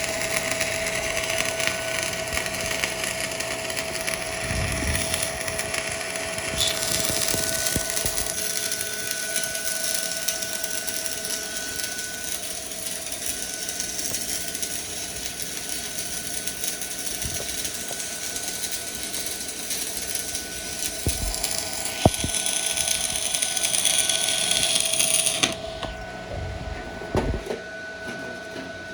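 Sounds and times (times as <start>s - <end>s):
welding arc crackling sizzle: 0.0s - 27.5s.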